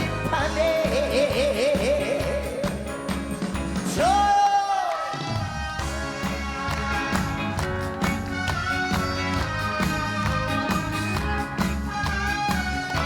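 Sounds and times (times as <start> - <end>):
band playing with bass and beat: 0.0 - 13.0.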